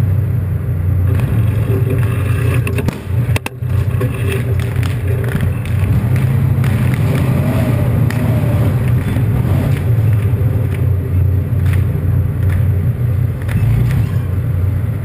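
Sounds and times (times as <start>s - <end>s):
tank diesel engine droning: 0.0s - 15.0s.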